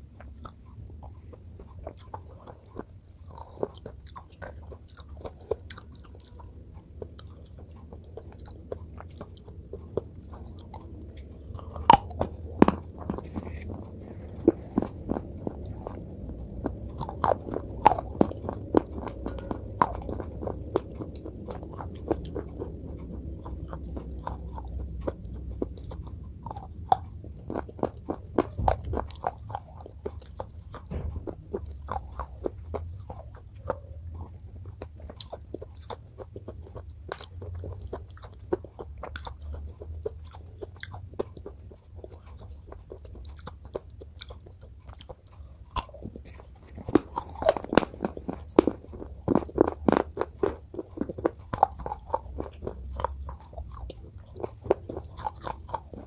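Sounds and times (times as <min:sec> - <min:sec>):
low steady hum: 0:00.0 - 0:56.0
crunching slate pencil in mouth: 0:00.2 - 0:56.0.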